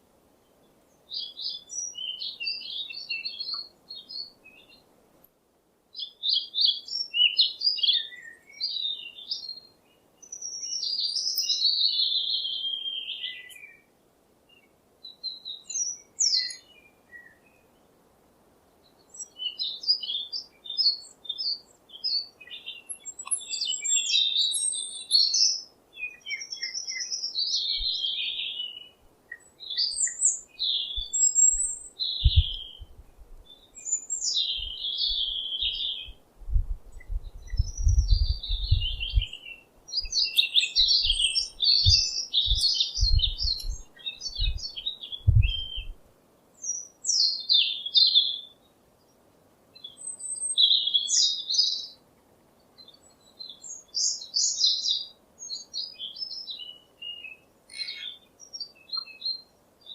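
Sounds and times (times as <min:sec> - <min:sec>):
songbird singing: 0:00.0 - 0:05.0, 0:05.9 - 0:59.9.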